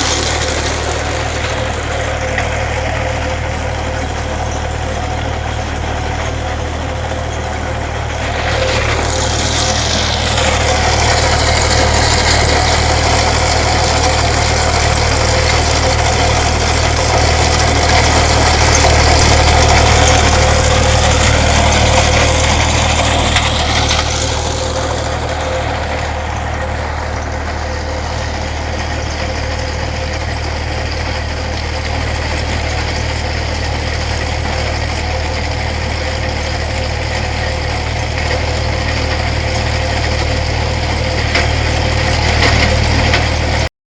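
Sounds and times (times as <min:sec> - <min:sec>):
engine whine: 0:00.0 - 0:43.7
excavator engine running: 0:00.0 - 0:43.7.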